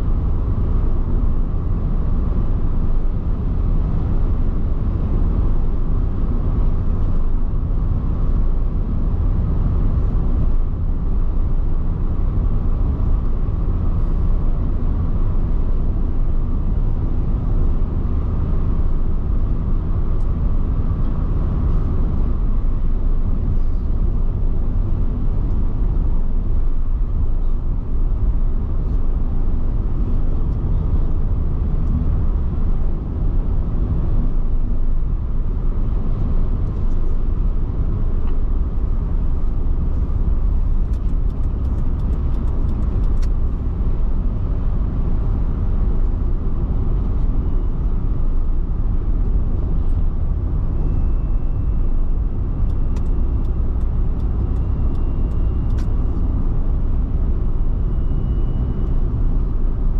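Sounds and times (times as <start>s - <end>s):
car interior road and engine rumble: 0.0s - 59.9s.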